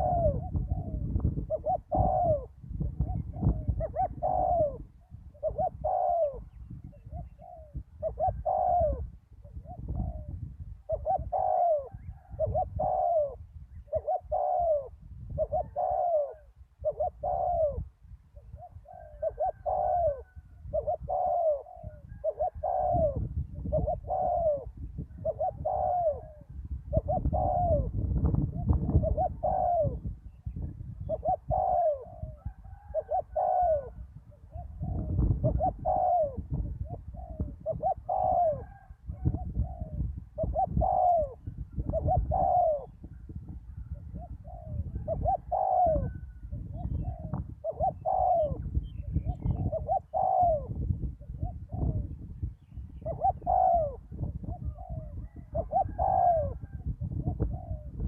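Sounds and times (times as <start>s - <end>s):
doves cooing: 0.0s - 52.2s, 52.9s - 58.0s.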